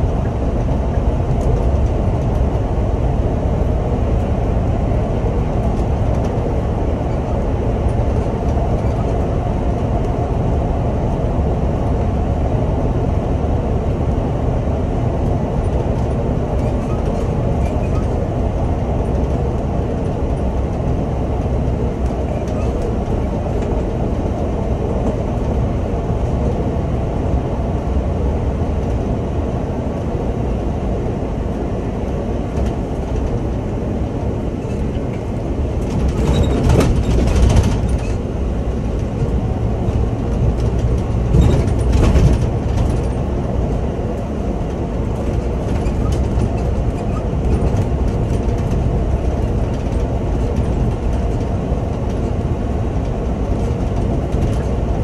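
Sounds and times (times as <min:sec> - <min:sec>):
bus engine and tyre rumble: 0:00.0 - 0:55.0.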